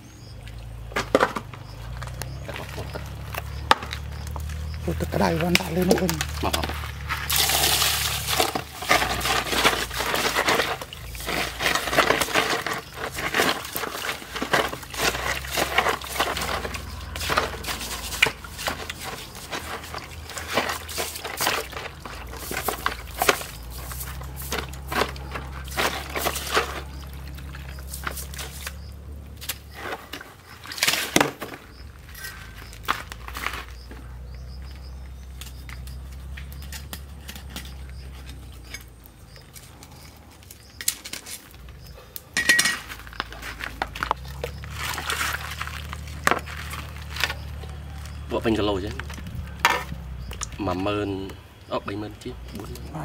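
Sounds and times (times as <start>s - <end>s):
water splashing: 0.0s - 38.8s, 42.6s - 53.0s
handling sounds: 0.8s - 50.6s.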